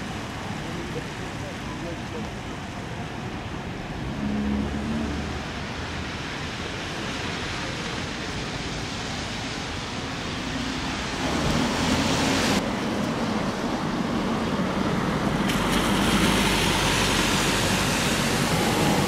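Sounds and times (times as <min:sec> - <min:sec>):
car tyres hissing on wet road: 0:00.0 - 0:19.0.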